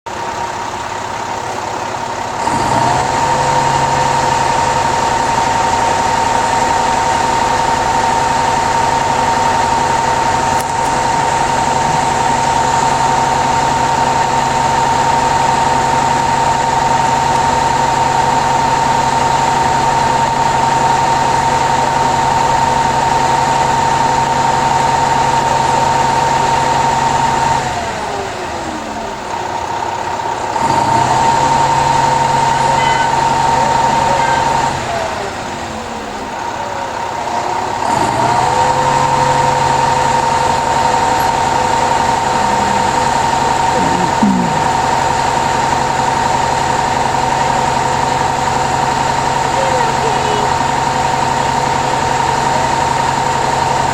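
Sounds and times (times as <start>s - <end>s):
truck engine whining: 0.1s - 53.9s.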